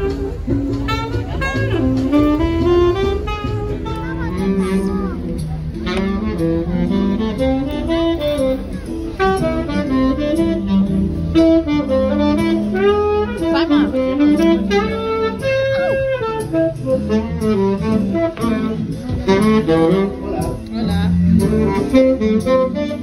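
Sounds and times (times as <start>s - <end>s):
bass line: 0.0s - 23.0s
saxophone playing jazz melody: 0.0s - 23.0s.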